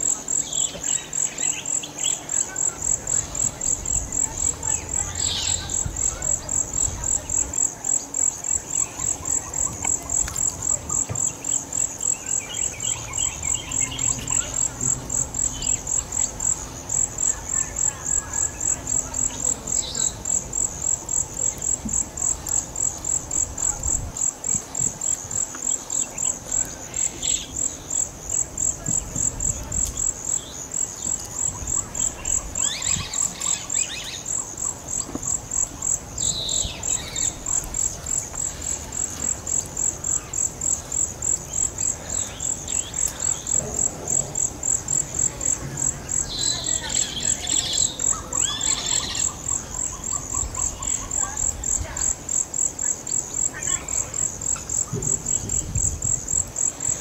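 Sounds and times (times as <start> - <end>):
insect pulsing call: 0.0 - 57.0.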